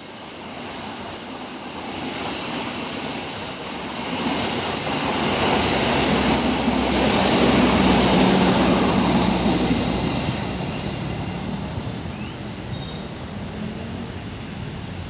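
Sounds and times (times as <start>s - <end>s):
train coaches rolling on rails: 0.0s - 15.0s.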